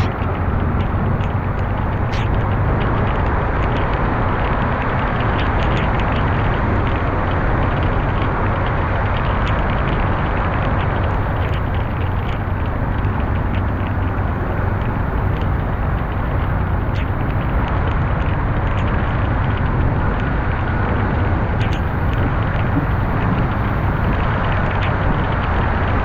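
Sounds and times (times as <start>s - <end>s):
faint ticks: 0.0s - 20.3s, 21.5s - 25.6s
car interior road noise: 0.0s - 26.0s.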